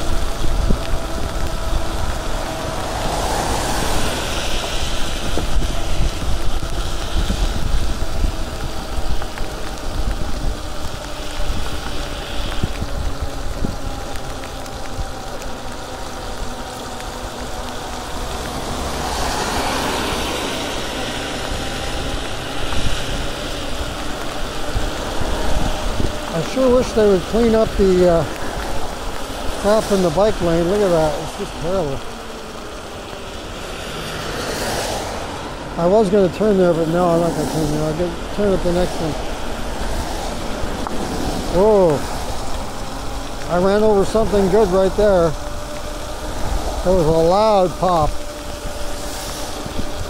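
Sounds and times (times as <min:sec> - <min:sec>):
cars passing on wet road: 0:00.0 - 0:50.0
tyres hissing on wet road: 0:00.0 - 0:50.0
wind rumble on microphone: 0:00.0 - 0:50.0.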